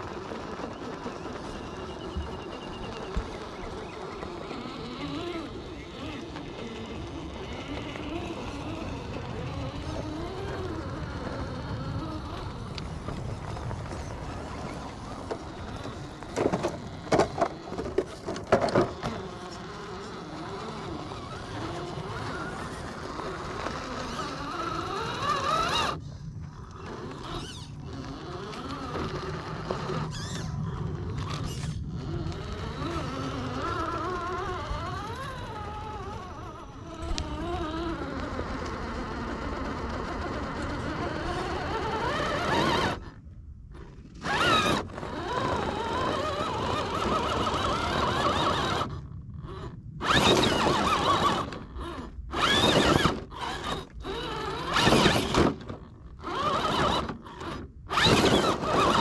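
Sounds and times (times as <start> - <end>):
rc car motor whining: 0.0 - 59.0.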